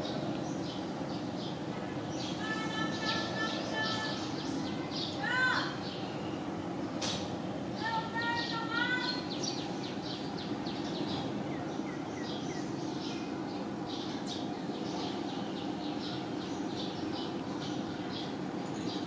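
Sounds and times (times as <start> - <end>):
small birds chirping: 0.0 - 7.0, 7.7 - 19.0
low background noise: 0.0 - 19.0.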